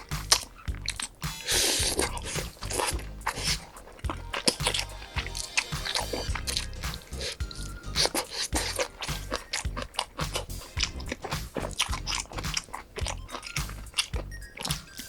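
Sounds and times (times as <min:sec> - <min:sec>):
crisp bites and crunching chews: 0:00.0 - 0:15.0.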